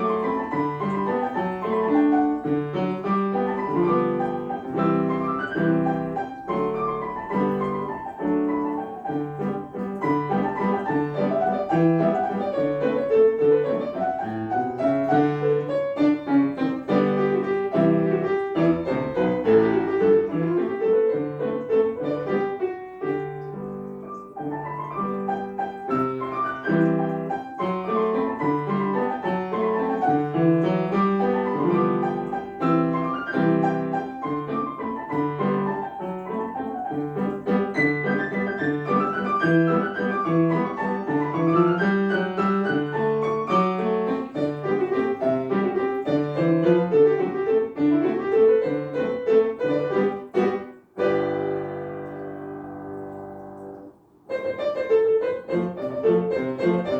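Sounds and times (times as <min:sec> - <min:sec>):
piano playing a tune: 0:00.0 - 0:56.9.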